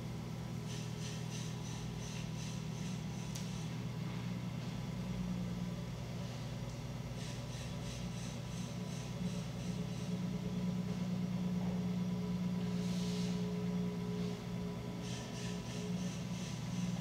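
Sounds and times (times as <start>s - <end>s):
potter's wheel motor humming: 0.0s - 17.0s.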